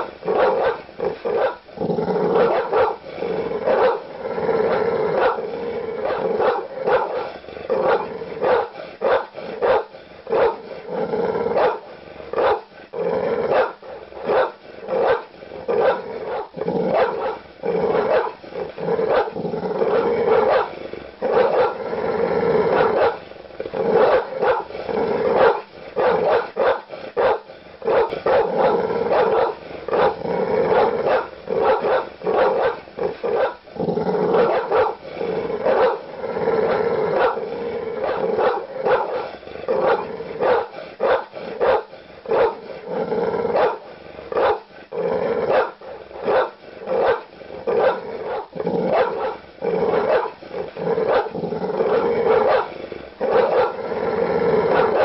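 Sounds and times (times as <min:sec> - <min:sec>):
dog growling: 0:00.0 - 0:55.0
large dog barking aggressively: 0:00.0 - 0:55.0.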